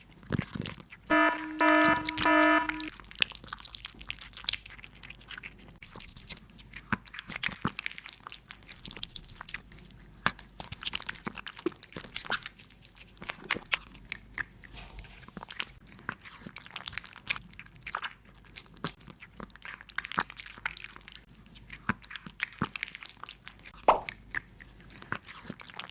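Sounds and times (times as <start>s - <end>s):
cat crunching food: 0.0s - 1.1s, 2.9s - 25.9s.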